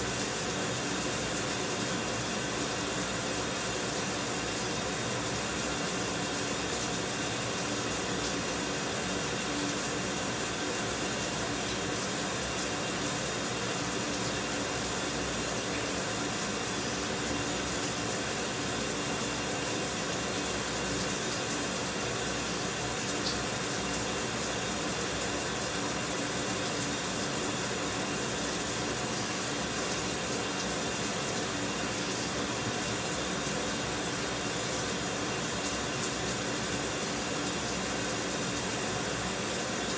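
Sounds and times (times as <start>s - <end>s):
shower running: 0.0s - 39.9s.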